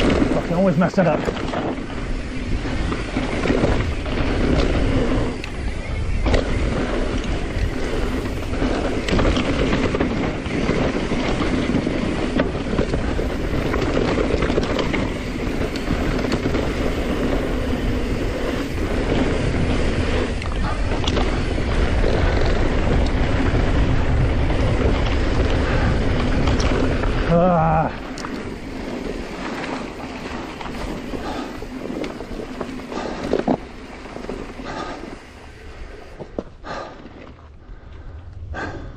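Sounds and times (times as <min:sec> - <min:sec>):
bike clicks and knocks: 0:00.0 - 0:38.4
tyres rolling over dirt and gravel: 0:00.0 - 0:38.8
wind on microphone: 0:00.0 - 0:38.9.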